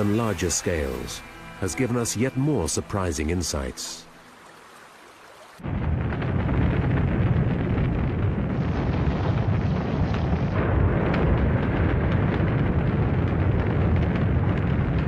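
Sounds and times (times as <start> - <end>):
rocket engines rumbling: 0.0 - 3.9, 5.6 - 15.0.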